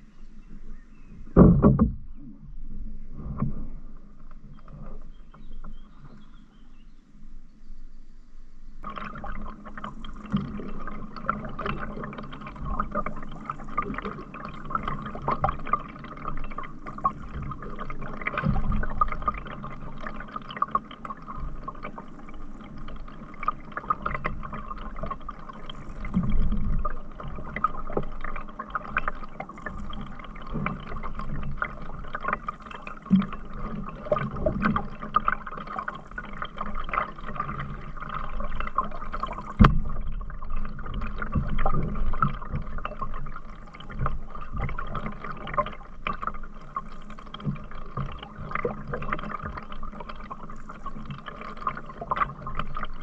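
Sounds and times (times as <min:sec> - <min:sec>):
water splashing and dripping: 0:08.8 - 0:53.0.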